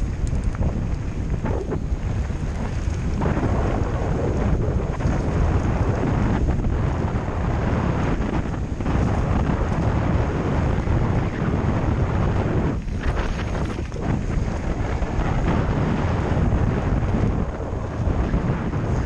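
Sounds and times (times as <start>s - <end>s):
tyres rumbling on dirt: 0.0s - 19.0s
wind buffeting microphone: 0.0s - 19.0s.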